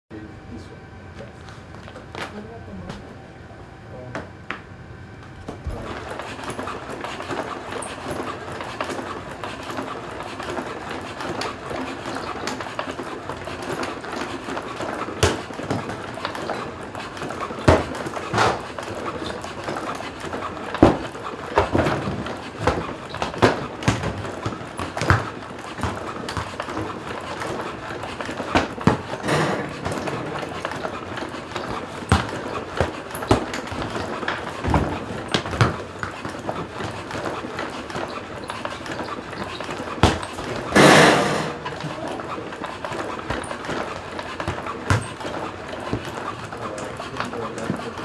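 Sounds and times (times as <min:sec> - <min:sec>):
robot footsteps on floor mat: 0:05.4 - 0:48.0.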